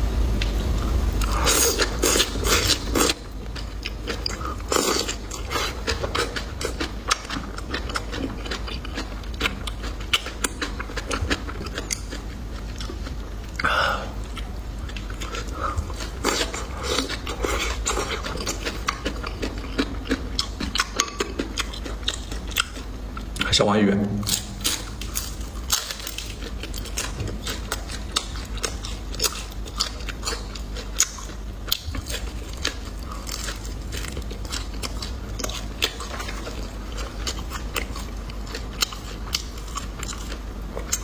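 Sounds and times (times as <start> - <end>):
person chewing crunchy food: 0.3 - 23.5, 24.2 - 41.0.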